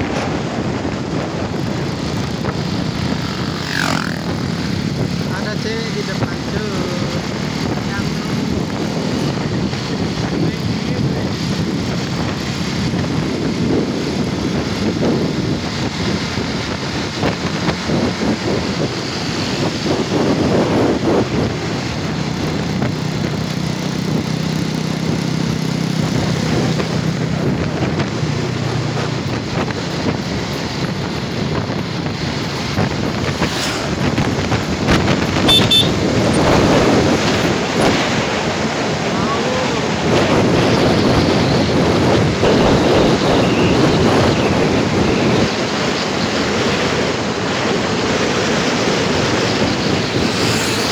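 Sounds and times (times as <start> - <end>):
motorcycle engine: 0.0 - 50.9
tyre noise on road: 0.0 - 50.9
wind rushing over microphone: 0.0 - 50.9.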